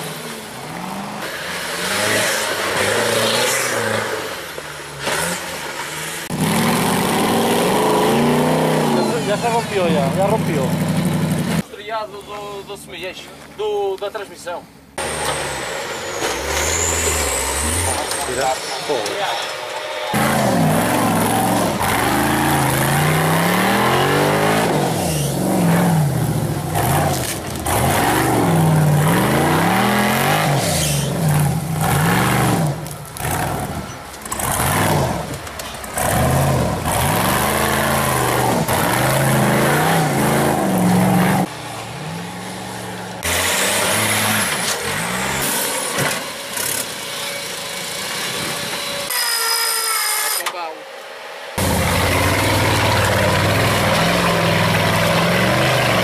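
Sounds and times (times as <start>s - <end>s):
buggy engine revving hard: 0.0s - 11.6s, 15.0s - 18.4s, 20.1s - 46.8s, 51.6s - 56.0s.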